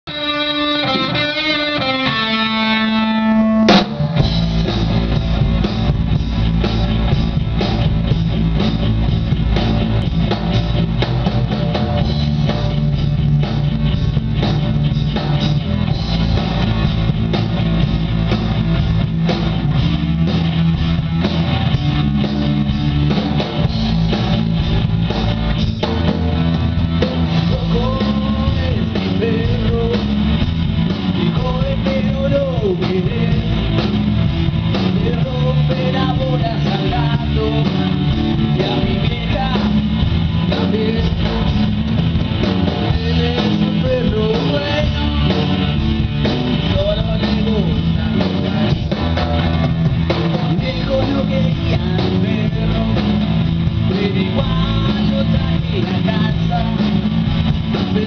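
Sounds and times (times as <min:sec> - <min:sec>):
electric guitar lead line: 0:00.0 - 0:58.0
rock band playing: 0:00.0 - 0:58.0.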